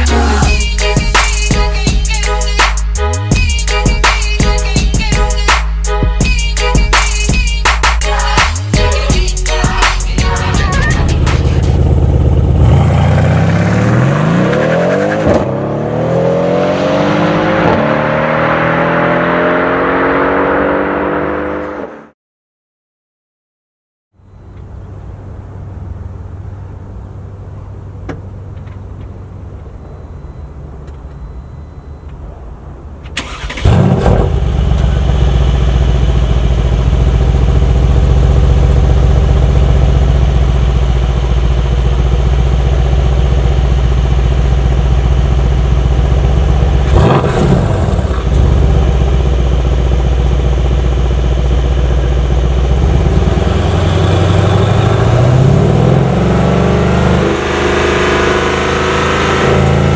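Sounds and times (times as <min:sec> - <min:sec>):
car engine and exhaust revving: 0:06.8 - 0:22.2, 0:24.3 - 0:59.9.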